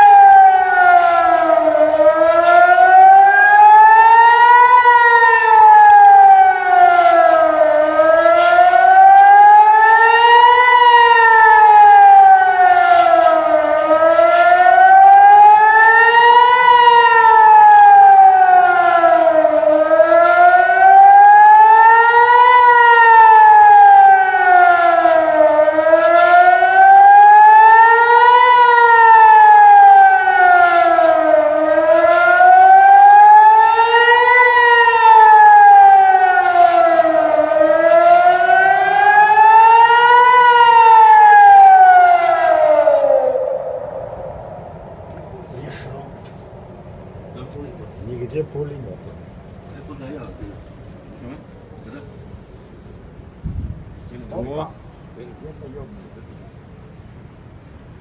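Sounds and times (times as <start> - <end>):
warning siren wailing: 0.0 - 52.0.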